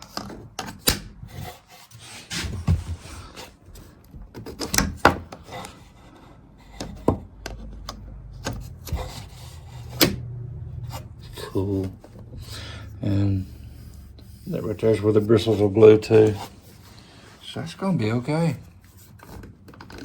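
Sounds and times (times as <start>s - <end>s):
plastic rubbing and scraping: 0.0s - 20.0s.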